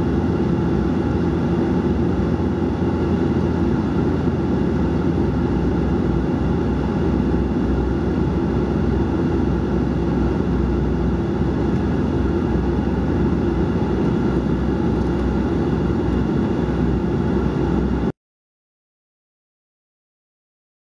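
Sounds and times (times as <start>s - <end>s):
propeller and engine drone: 0.0s - 18.2s.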